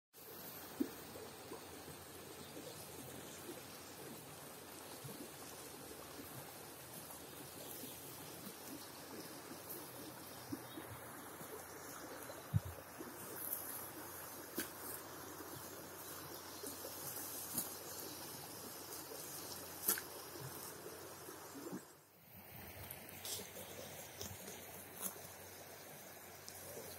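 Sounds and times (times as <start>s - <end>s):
river water running: 0.2s - 26.9s.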